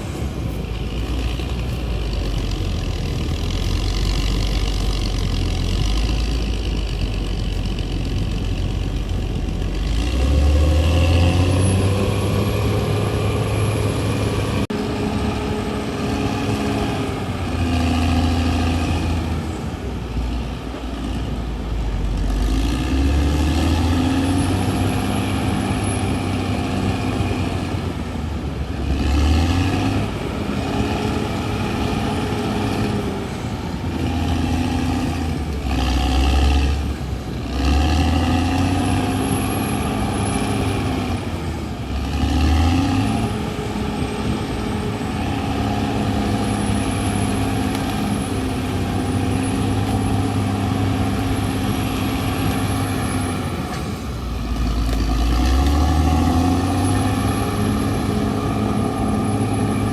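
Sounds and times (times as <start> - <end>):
bulldozer diesel engine surging: 0.0 - 59.9.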